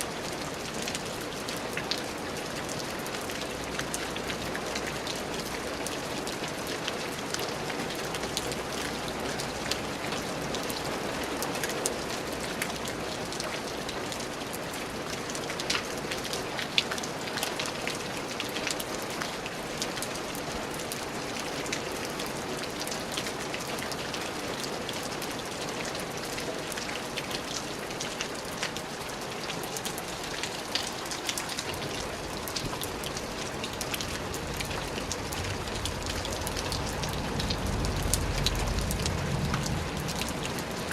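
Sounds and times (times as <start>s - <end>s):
steady rain falling: 0.0s - 40.9s
raindrops tapping on a surface: 0.2s - 40.9s.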